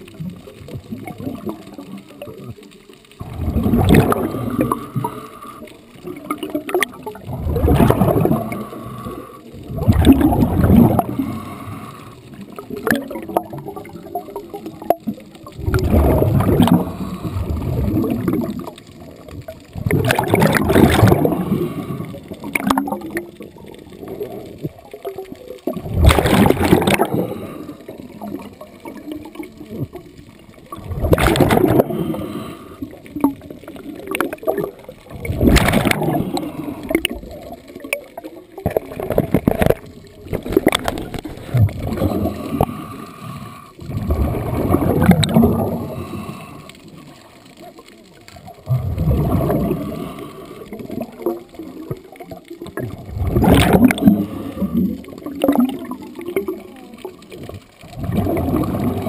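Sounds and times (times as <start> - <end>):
underwater water noise: 0.0 - 59.0
regulator exhale bubbling: 3.2 - 24.8, 25.6 - 30.0, 30.6 - 59.0.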